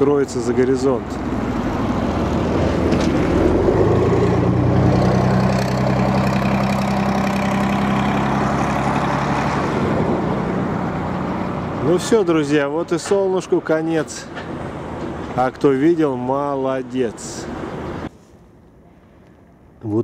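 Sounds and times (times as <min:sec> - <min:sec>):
vehicle engine hum: 0:00.0 - 0:18.1.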